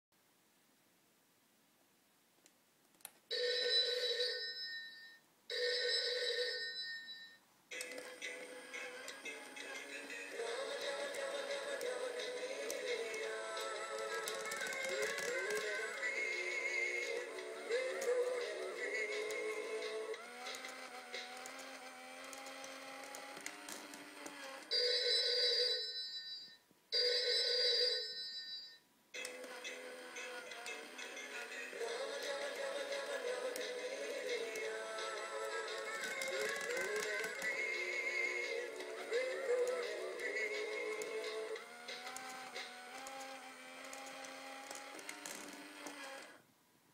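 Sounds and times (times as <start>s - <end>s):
electronic telephone ringing: 3.3s - 43.4s
telephone singing tune: 3.3s - 45.3s.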